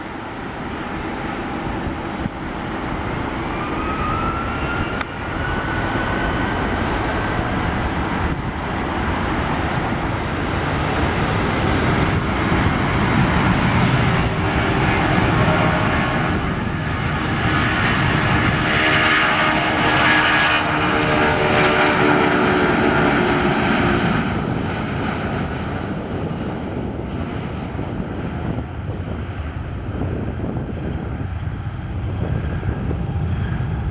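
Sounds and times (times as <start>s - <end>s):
jet engines at takeoff thrust: 0.0s - 33.9s
rising engine whine: 0.0s - 33.9s.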